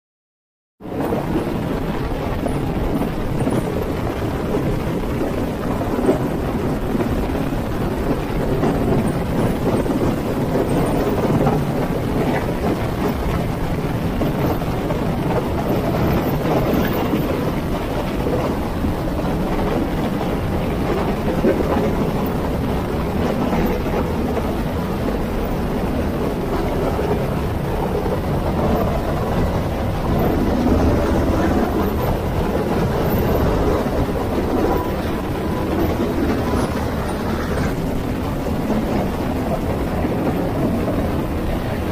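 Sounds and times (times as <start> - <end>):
helicopter rotor and engine noise: 0.8 - 41.9
wind buffeting microphone: 0.8 - 41.9.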